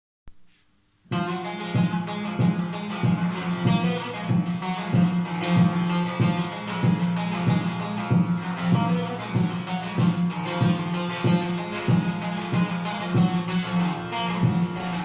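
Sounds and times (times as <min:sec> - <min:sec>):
long-necked lute strumming: 0:01.1 - 0:15.0.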